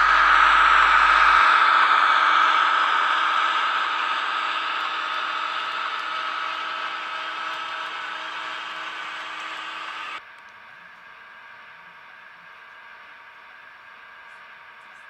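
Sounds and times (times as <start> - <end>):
model train diesel engine sound: 0.0 - 15.0.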